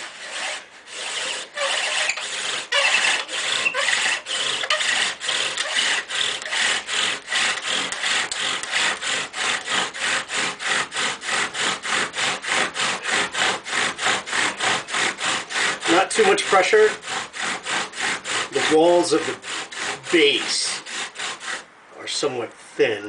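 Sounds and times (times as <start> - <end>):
bow drill rubbing wood: 0.0 - 21.7.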